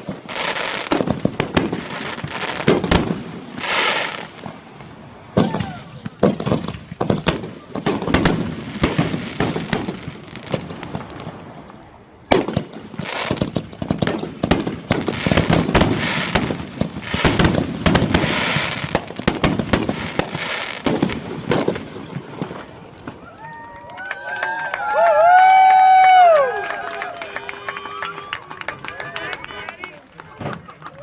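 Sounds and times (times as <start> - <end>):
fireworks bangs and crackling: 0.0 - 26.4, 28.8 - 31.0.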